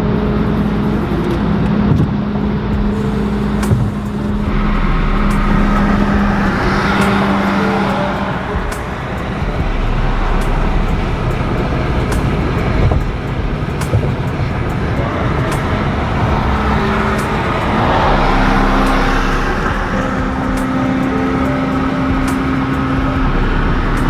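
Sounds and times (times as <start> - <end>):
car road and engine noise: 0.0 - 24.0
engine note rising: 0.0 - 24.0.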